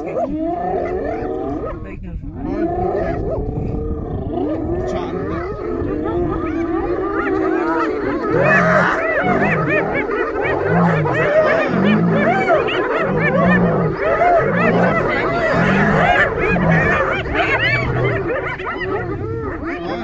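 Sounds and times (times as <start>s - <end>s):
hyenas whooping and squealing: 0.0s - 20.0s.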